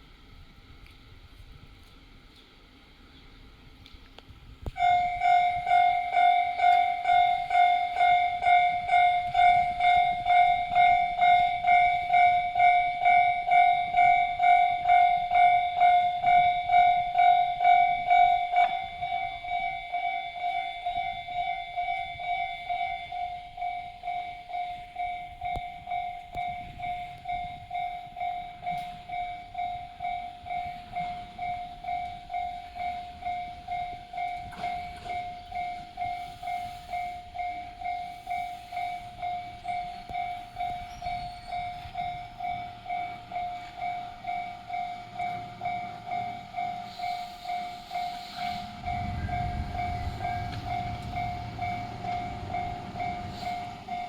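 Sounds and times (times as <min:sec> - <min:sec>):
train rumbling: 0:00.0 - 0:54.0
level crossing alarm bell: 0:04.8 - 0:54.0.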